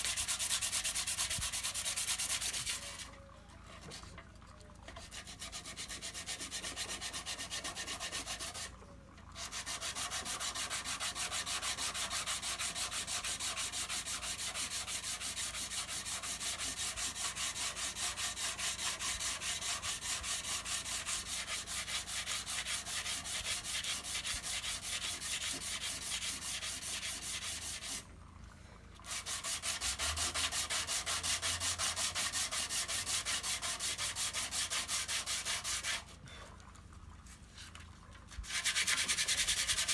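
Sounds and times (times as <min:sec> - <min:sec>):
sandpaper sanding back and forth: 0:00.0 - 0:03.1, 0:05.1 - 0:08.7, 0:09.4 - 0:28.0, 0:29.0 - 0:36.1, 0:38.4 - 0:39.9.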